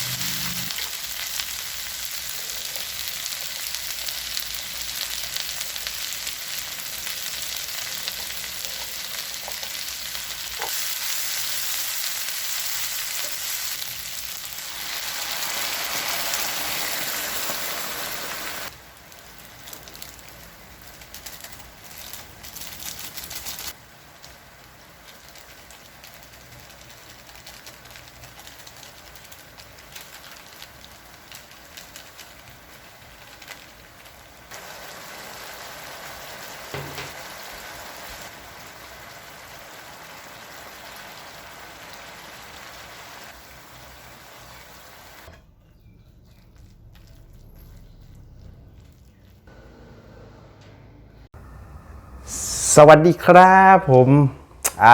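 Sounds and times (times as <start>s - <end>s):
food sizzling in a hot pan: 0.0s - 45.3s.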